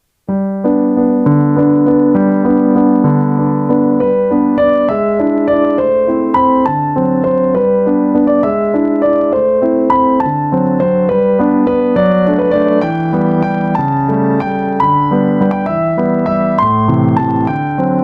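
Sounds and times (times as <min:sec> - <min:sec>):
piano melody: 0:00.2 - 0:18.0.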